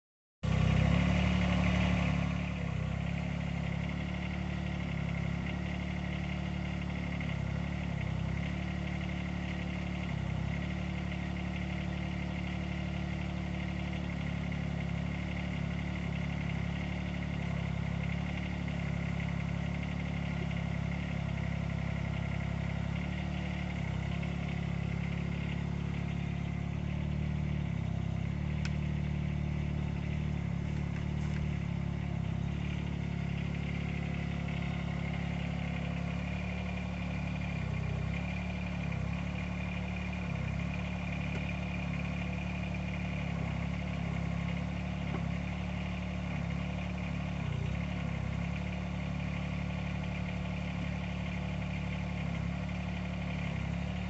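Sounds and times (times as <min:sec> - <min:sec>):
mini excavator engine running: 0:00.4 - 0:54.0.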